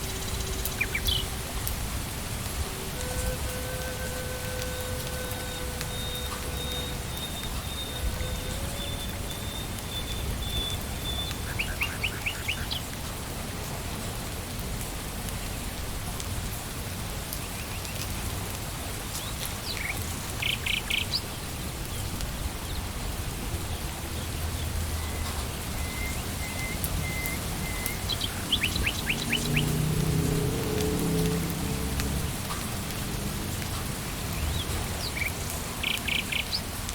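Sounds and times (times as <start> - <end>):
birds chirping: 0.0 - 12.9, 19.2 - 36.8
rain on leaves: 0.0 - 36.9.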